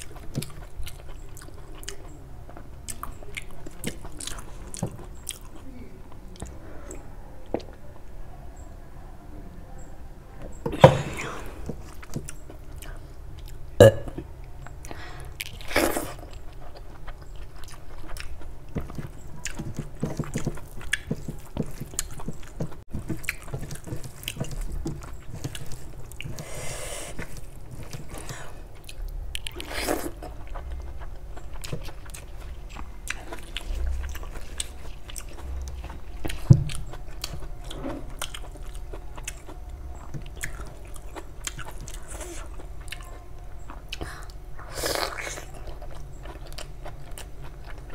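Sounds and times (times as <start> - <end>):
chewing and wet mouth sounds: 0.0 - 7.9, 11.1 - 47.9.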